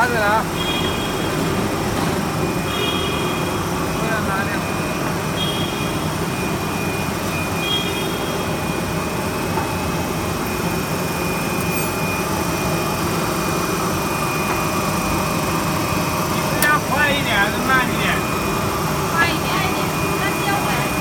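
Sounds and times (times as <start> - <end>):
factory machinery hum: 0.0 - 21.0
thin high whine: 2.5 - 21.0.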